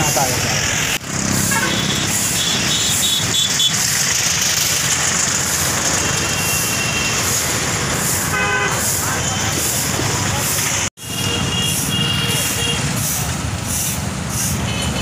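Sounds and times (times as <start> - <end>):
brooms sweeping road: 0.0 - 15.0
trucks and rickshaw engines passing: 0.0 - 15.0.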